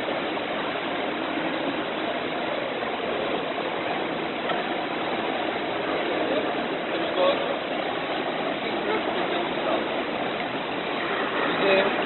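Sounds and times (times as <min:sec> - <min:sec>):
indoor swimming pool rushing noise: 0:00.0 - 0:12.0.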